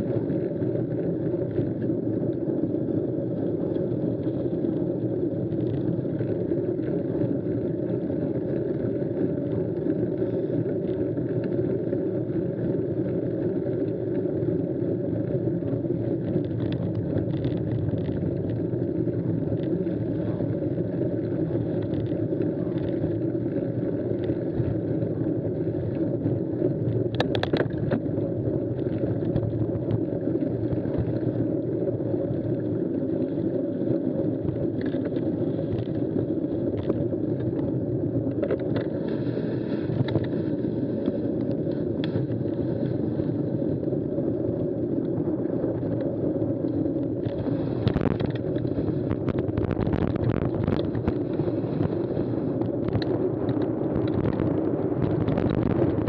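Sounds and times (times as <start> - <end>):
bike tyres rolling over track: 0.0 - 56.0.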